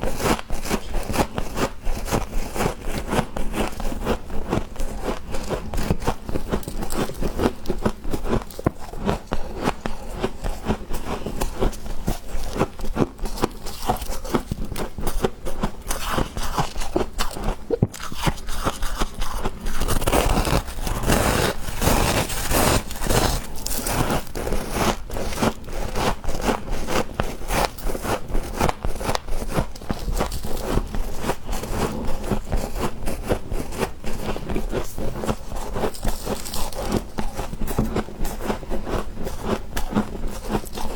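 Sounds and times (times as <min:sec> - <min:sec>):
crunching frost between teeth: 0:00.1 - 0:40.9.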